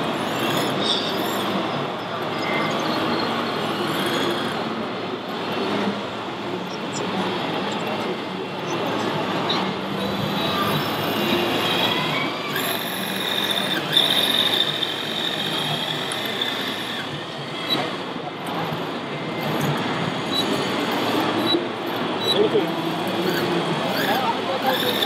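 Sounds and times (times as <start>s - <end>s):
crowd babble in hall: 0.0s - 25.0s
model vehicle high whine: 0.0s - 25.0s.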